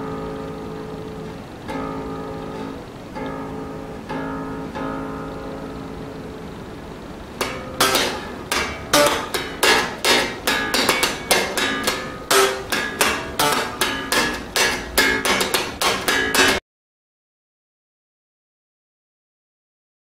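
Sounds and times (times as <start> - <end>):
electric bass plucked notes: 0.0 - 16.6.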